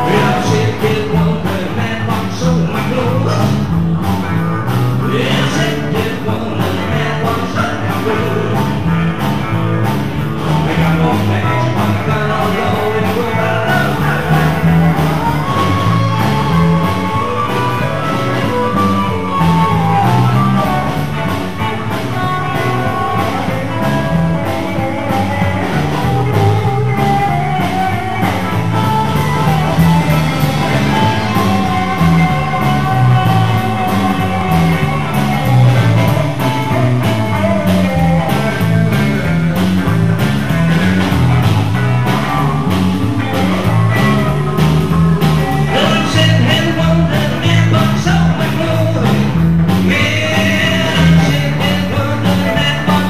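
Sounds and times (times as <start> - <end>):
person singing: 0.0 - 3.7, 5.0 - 9.3, 10.4 - 39.4, 42.0 - 53.0
bass line: 0.0 - 53.0
electric guitar: 0.0 - 53.0
steady drum beat: 0.0 - 53.0.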